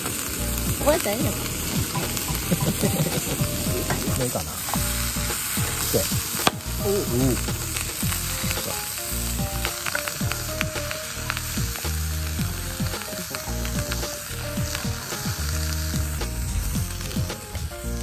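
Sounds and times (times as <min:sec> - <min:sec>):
meat sizzling in a frying pan: 0:00.0 - 0:18.0.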